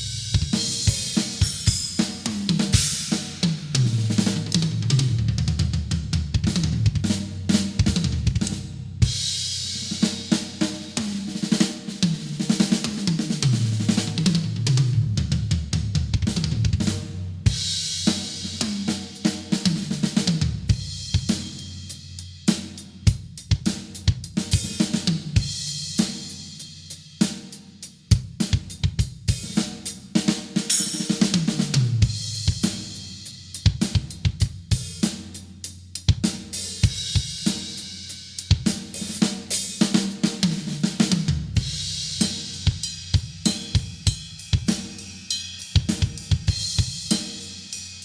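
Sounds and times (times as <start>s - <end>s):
acoustic drum kit: 0.0s - 48.0s.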